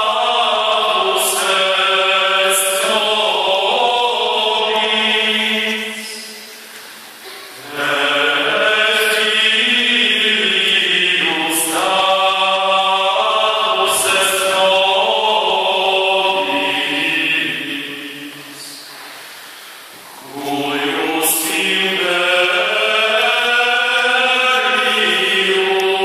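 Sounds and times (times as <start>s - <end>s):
male choir singing unaccompanied: 0.0s - 6.5s, 7.6s - 18.8s, 20.2s - 26.0s.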